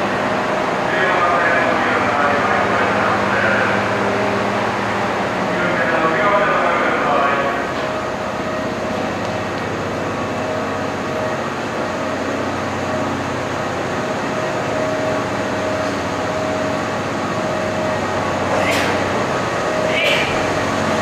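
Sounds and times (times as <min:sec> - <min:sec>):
diesel generator idling drone: 0:00.0 - 0:21.0.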